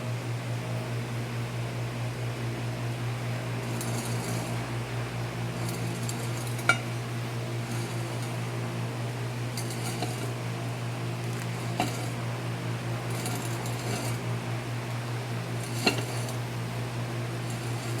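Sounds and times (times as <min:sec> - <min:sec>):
steady low hum: 0:00.8 - 0:18.0.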